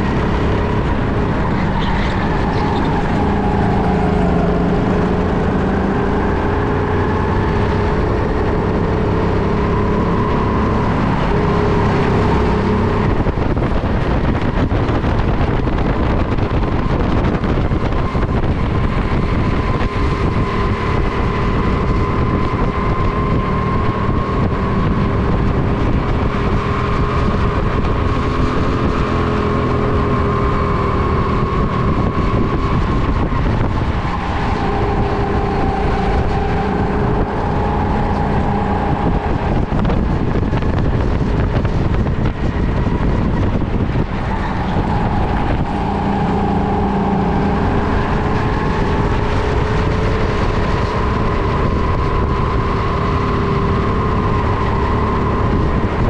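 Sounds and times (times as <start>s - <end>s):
go-kart engine running: 0.0s - 56.0s
wind rushing over microphone: 0.0s - 56.0s.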